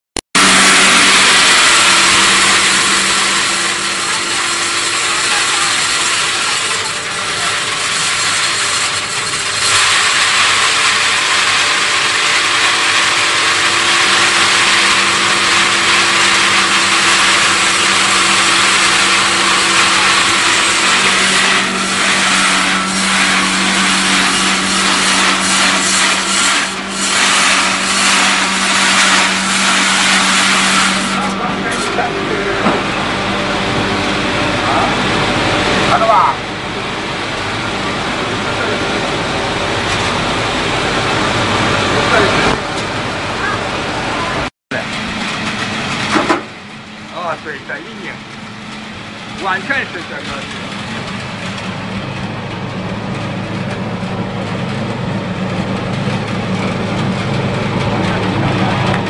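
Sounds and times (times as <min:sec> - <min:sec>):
feed crushing machine grinding: 0:00.4 - 0:59.0.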